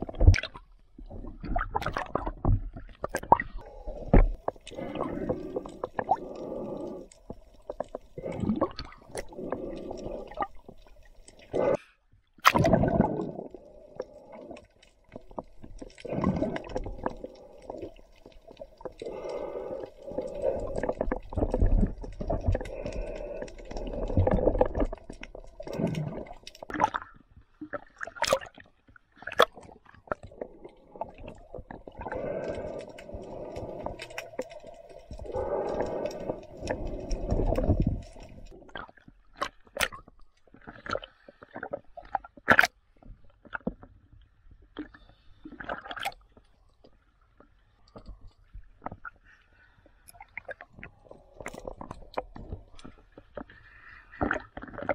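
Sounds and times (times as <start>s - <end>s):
underwater sloshing and gurgling: 0.0s - 54.9s.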